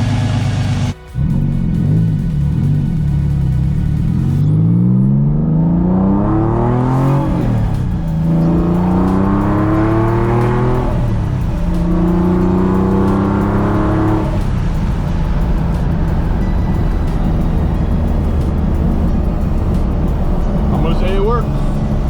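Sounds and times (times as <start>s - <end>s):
car engine accelerating through gears: 0.0s - 22.0s.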